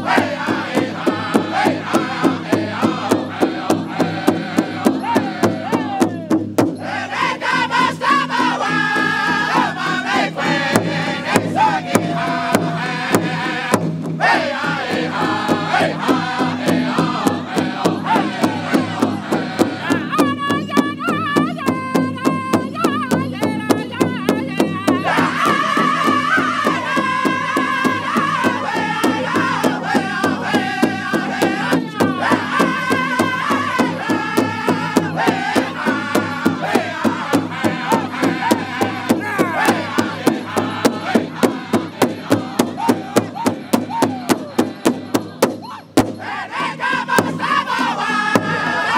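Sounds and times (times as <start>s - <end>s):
group singing high-pitched: 0.0s - 48.9s
large hand drum beating: 0.0s - 48.9s.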